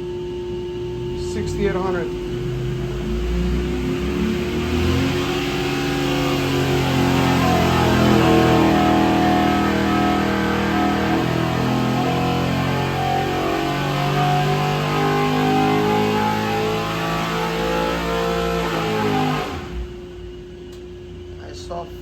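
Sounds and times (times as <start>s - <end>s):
engine running hard on dyno: 0.0s - 21.2s.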